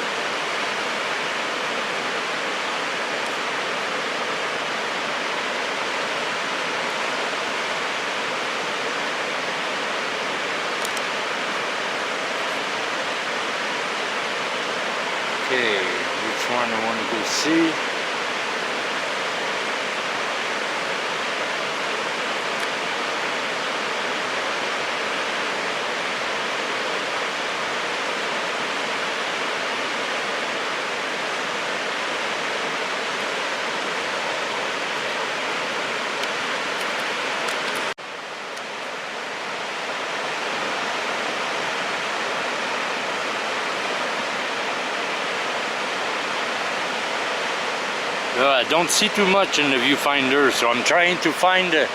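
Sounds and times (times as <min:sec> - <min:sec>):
creek water rushing: 0:00.0 - 0:51.9.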